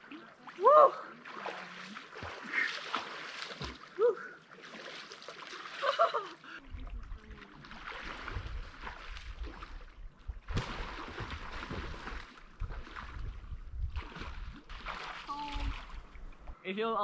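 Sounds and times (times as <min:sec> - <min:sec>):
water splashing around swimmer: 0:00.0 - 0:16.4.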